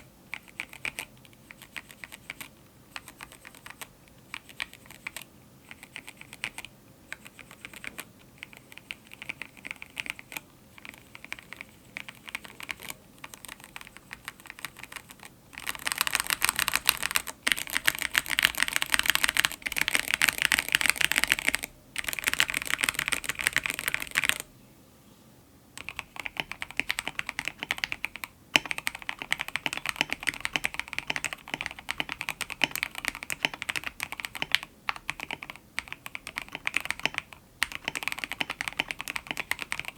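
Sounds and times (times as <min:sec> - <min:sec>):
mechanical keyboard typing: 0:00.0 - 0:24.5, 0:25.8 - 0:39.9.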